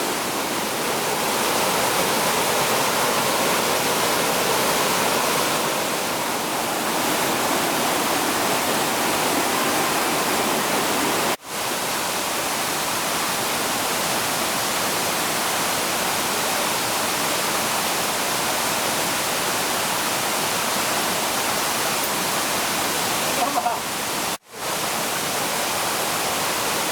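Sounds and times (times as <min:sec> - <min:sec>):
waterfall roaring: 0:00.0 - 0:26.9.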